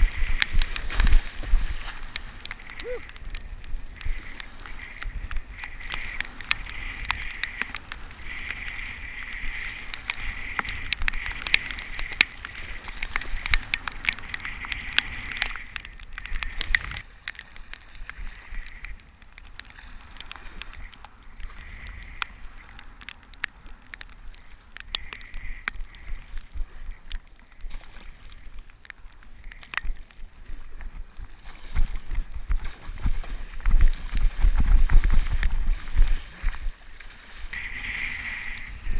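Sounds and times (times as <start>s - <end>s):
water sloshing and splashing: 0.0s - 38.9s.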